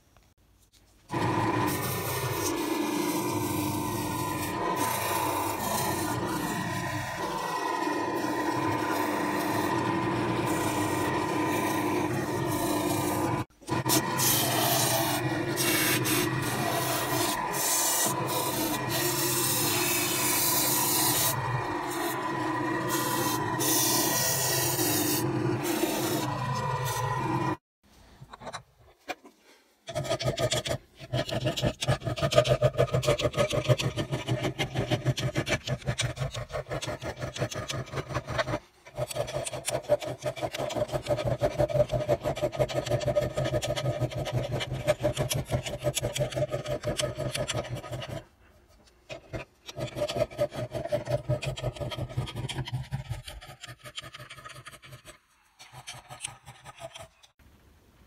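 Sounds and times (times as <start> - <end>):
file scraping metal: 1.1 - 27.6, 29.9 - 48.3, 49.0 - 57.4.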